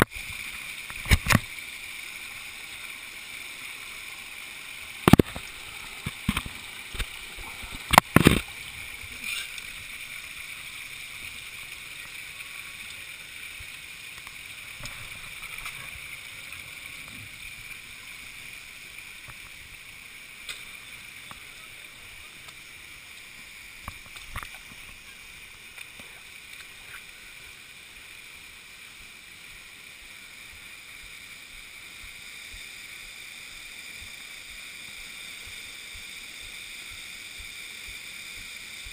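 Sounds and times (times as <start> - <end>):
water rushing over rock: 0.0 - 38.9.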